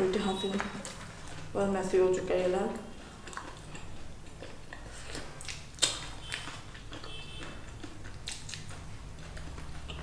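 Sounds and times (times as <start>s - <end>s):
soft chewing: 0.6s - 10.0s.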